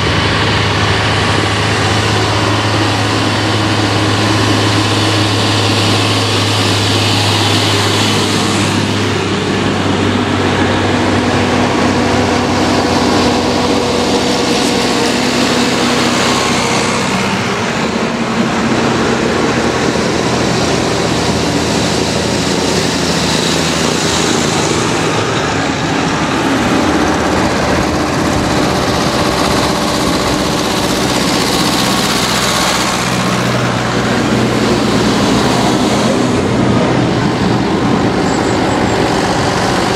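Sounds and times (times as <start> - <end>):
tractors driving past: 0.0 - 39.9.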